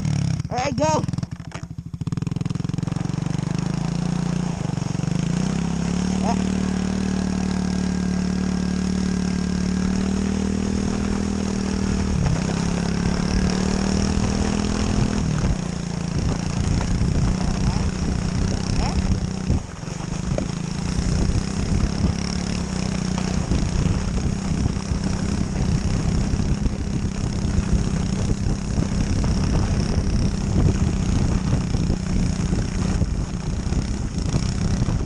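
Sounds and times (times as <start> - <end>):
pit bike engine droning: 0.0 - 35.0.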